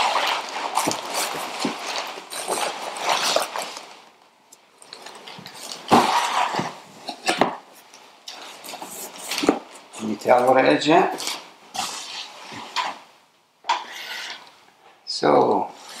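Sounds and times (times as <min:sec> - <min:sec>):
plastic packing crinkling: 0:00.0 - 0:13.1.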